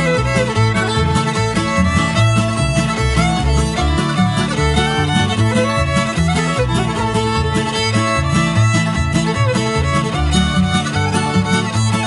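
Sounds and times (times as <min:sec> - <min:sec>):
fiddle: 0:00.0 - 0:12.0
plucked guitar: 0:00.0 - 0:12.0
walking bass line: 0:00.0 - 0:12.0.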